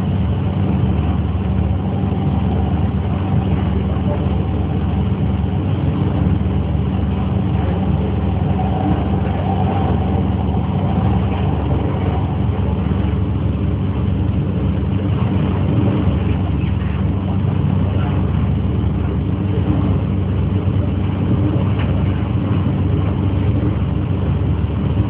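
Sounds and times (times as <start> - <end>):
train interior hum and rumble: 0.0 - 25.0.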